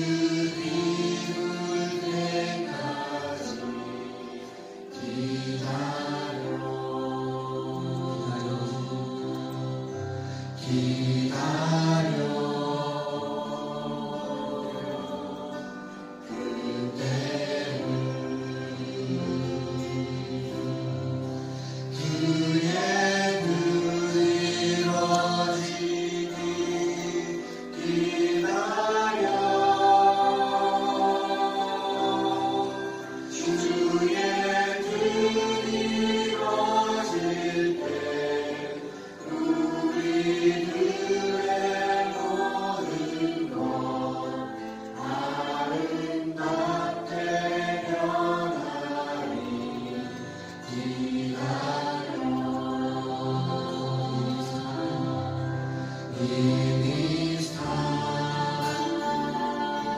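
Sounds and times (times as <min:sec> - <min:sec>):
group singing worship song: 0:00.0 - 0:59.9.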